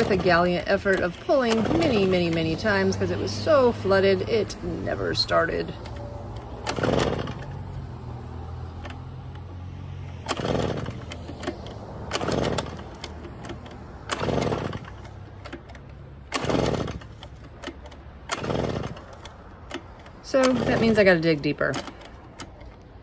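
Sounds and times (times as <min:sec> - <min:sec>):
recoil starter pull whir: 0:00.0 - 0:23.0.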